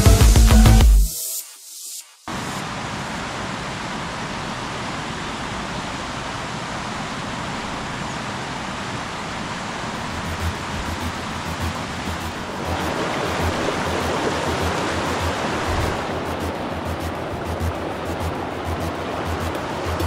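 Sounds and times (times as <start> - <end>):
river rushing over rocks: 2.3 - 20.0.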